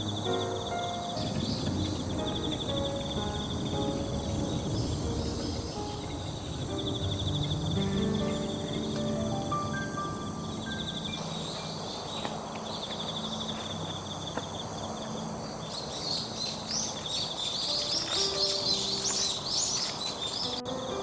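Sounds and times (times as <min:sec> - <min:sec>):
bird chirping: 0:00.0 - 0:21.0
faint piano music: 0:00.0 - 0:21.0
insects trilling: 0:00.0 - 0:21.0.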